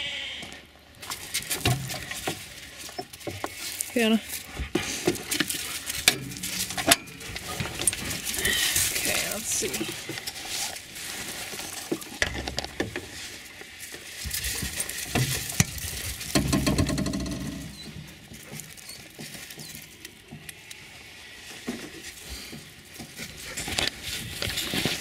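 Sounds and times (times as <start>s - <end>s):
metal crate rustling and scraping: 1.0s - 20.5s, 21.3s - 25.0s.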